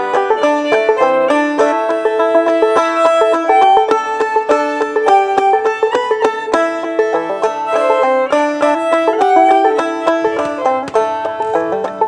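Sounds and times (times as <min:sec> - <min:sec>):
bowed fiddle melody: 0:00.0 - 0:12.0
picked banjo notes: 0:00.0 - 0:12.0.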